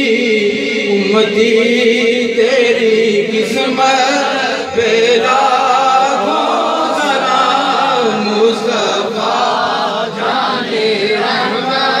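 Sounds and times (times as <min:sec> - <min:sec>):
men chanting devotional recitation: 0:00.0 - 0:12.0.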